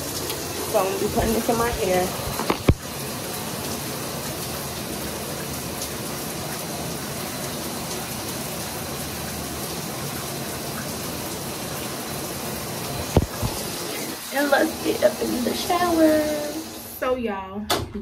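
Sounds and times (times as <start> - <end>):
shower water spraying: 0.0 - 17.1.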